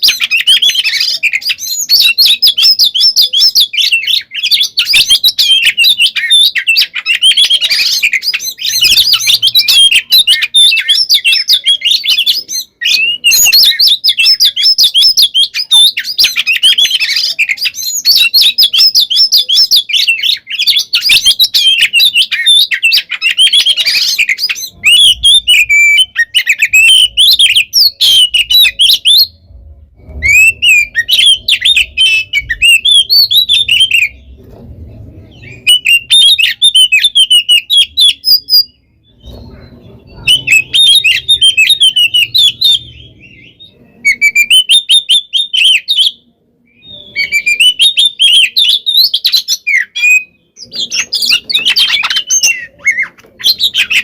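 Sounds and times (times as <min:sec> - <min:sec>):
magpie-robin singing: 0:00.0 - 0:34.6, 0:35.2 - 0:54.0.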